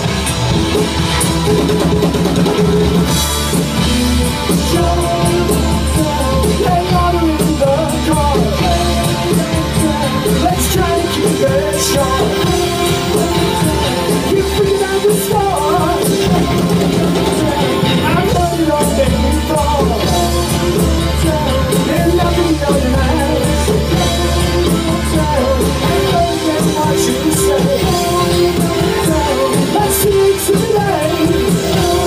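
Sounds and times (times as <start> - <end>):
bass guitar: 0.0 - 32.0
drum kit: 0.0 - 32.0
electric guitar: 0.0 - 32.0.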